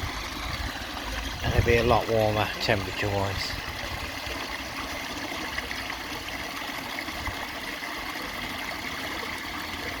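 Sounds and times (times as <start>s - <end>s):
waterfall splashing into pond: 0.0s - 10.0s.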